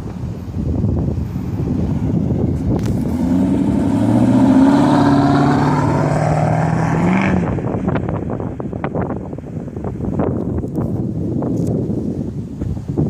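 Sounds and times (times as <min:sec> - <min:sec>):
car exhaust under throttle: 0:00.7 - 0:11.9.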